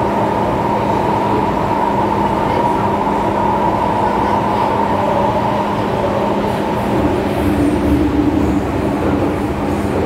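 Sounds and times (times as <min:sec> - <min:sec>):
constant hum: 0:00.0 - 0:10.0
train wheels rumbling: 0:00.0 - 0:10.0.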